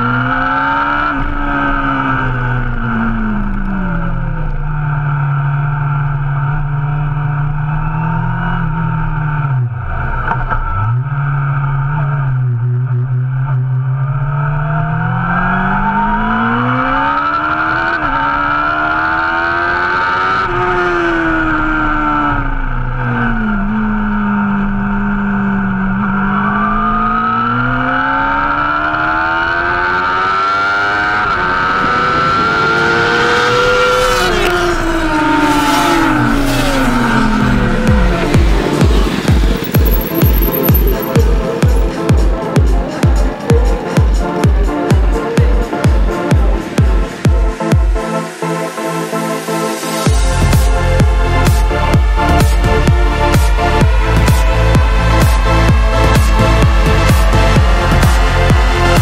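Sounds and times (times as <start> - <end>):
motorcycle engine revving: 0.0 - 48.4, 50.0 - 59.0.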